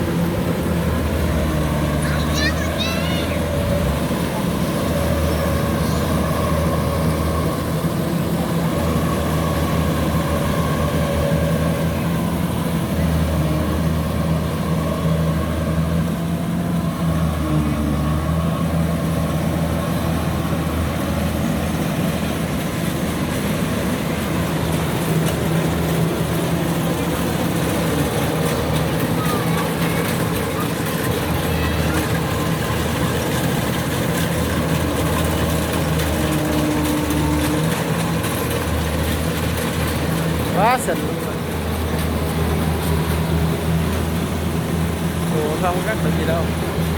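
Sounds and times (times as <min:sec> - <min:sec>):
combine harvester diesel engine: 0:00.0 - 0:46.9
harvesting machinery working: 0:00.0 - 0:46.9.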